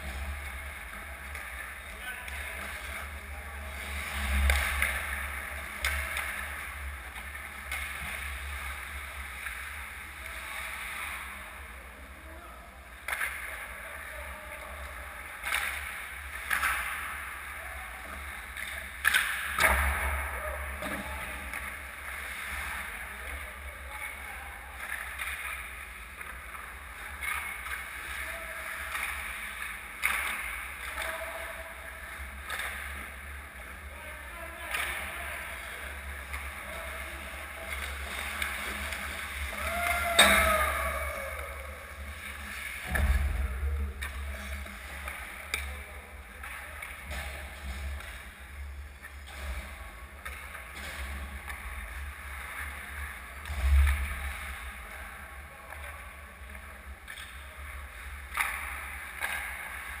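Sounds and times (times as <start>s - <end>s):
hockey sticks and puck clacking: 0.0s - 3.2s, 4.2s - 9.8s, 13.0s - 13.9s, 15.3s - 23.4s, 24.0s - 33.8s, 34.4s - 41.0s, 42.0s - 54.6s, 55.7s - 60.0s.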